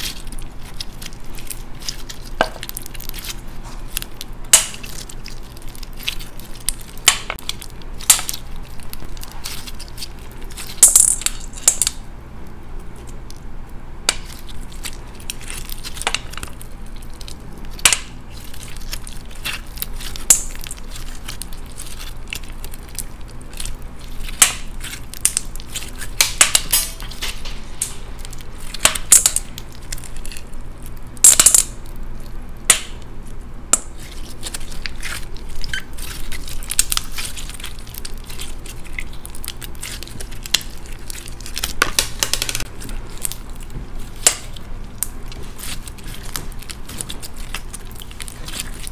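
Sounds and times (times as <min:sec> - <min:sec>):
slime crackling and popping: 0:00.0 - 0:12.0, 0:14.0 - 0:48.9.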